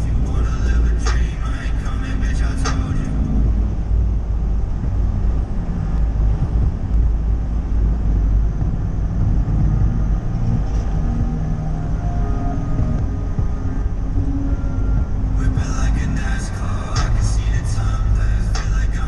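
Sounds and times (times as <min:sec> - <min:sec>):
pickup engine and road noise: 0:00.0 - 0:19.0.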